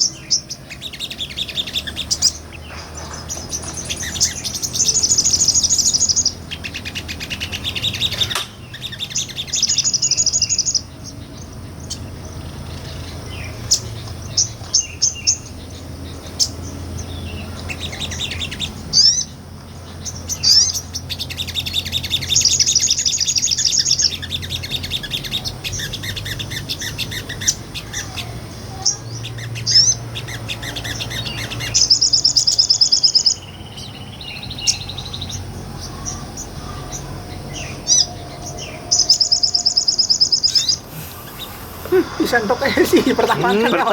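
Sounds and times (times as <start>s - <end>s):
songbird trilling: 0.0s - 43.9s.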